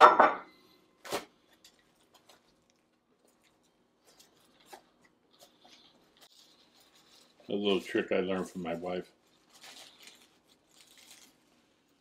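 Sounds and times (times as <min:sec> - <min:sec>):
plastic wrap crinkling: 0:01.0 - 0:12.0.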